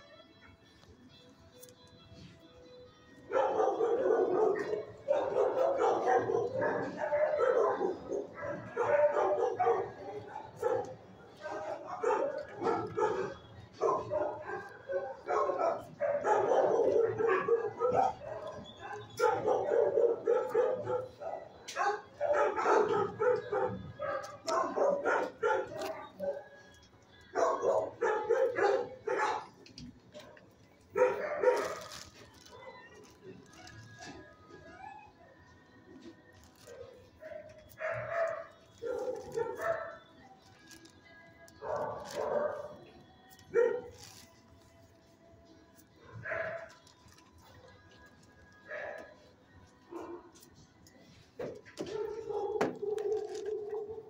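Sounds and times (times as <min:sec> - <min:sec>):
dogs barking: 0:03.3 - 0:40.9, 0:41.5 - 0:44.4, 0:45.9 - 0:54.0.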